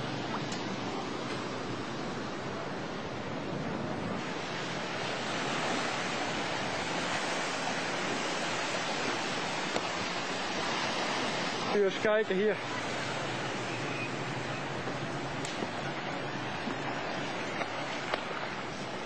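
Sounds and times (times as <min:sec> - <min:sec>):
rushing floodwater and surf: 0:00.0 - 0:19.0.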